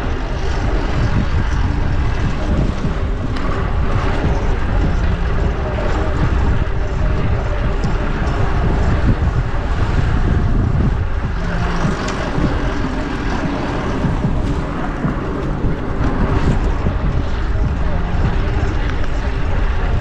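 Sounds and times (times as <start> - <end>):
traffic passing: 0.0 - 20.0
wind rumble on microphone: 0.0 - 20.0.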